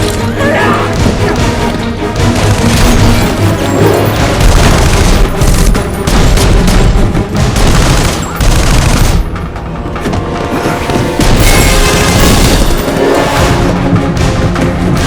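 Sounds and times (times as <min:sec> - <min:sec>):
action film score music: 0:00.0 - 0:15.0
booms and crashing impacts: 0:00.8 - 0:09.6, 0:11.2 - 0:15.0.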